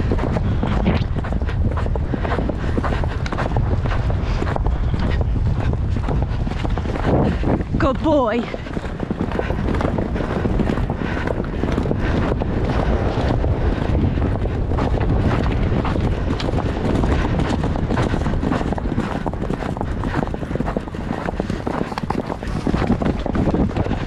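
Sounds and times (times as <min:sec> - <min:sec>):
horse hoofbeats on grass: 0:00.0 - 0:24.0
wind over microphone: 0:00.0 - 0:24.0.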